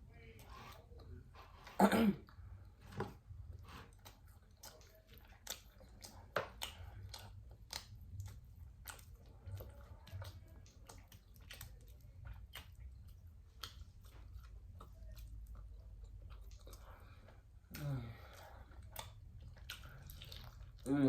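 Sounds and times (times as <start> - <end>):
person chewing ribs: 0.5 - 21.0.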